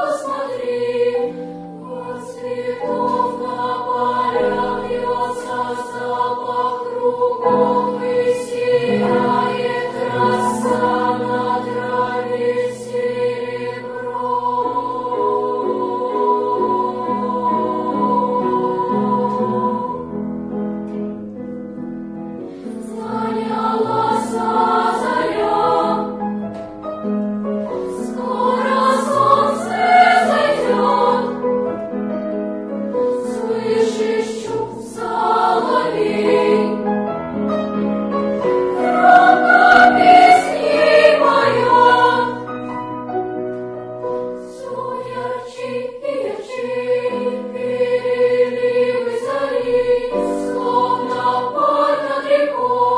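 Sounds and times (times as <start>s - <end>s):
children's choir singing: 0.0s - 20.6s, 22.6s - 31.9s, 33.0s - 37.0s, 38.2s - 42.8s, 44.4s - 52.9s.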